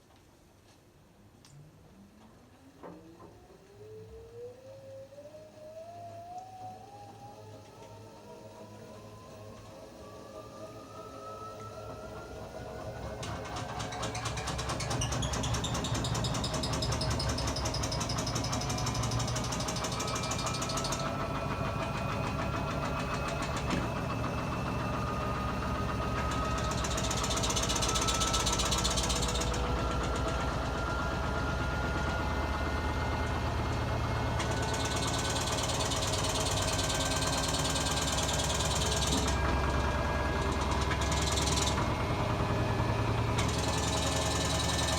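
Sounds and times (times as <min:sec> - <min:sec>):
washing machine motor whine: 0:02.0 - 0:44.9.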